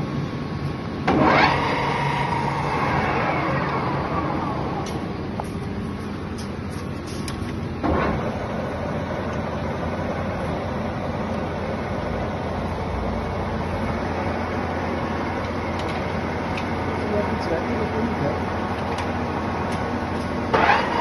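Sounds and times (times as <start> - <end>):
lathe humming and whirring: 0.0 - 21.0.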